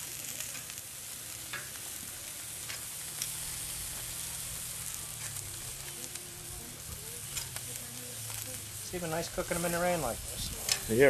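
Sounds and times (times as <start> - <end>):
chicken sizzling on a grill: 0.0 - 11.0
small crackles and pops: 0.0 - 11.0.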